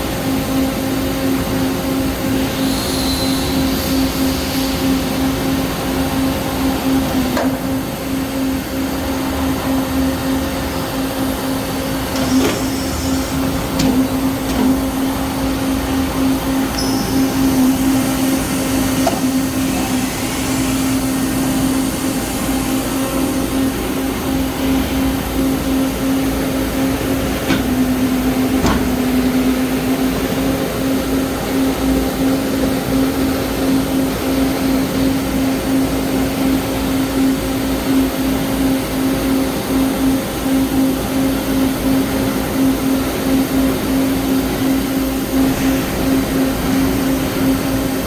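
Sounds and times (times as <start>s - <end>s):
machine hum with constant tone: 0.0s - 48.0s.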